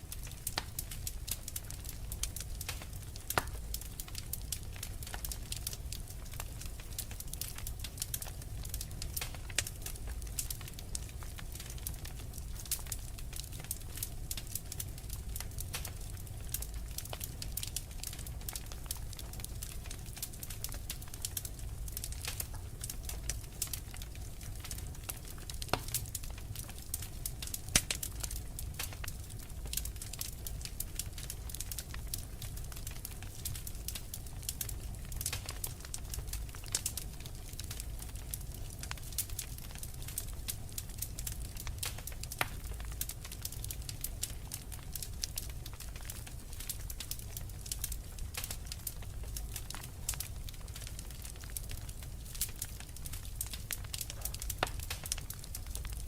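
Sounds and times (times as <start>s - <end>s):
wood fire crackling: 0.0s - 56.0s
sharp pops from fire: 0.1s - 56.0s.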